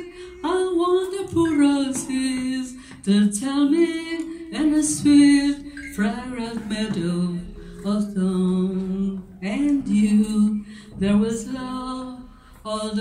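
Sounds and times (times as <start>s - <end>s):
women singing into microphones: 0.0s - 13.0s.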